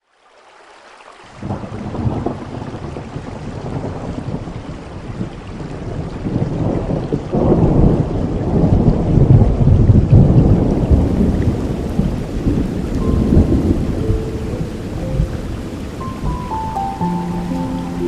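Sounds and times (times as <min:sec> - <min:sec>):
steady rain: 0:00.0 - 0:18.0
thunder rumbling: 0:01.4 - 0:18.0.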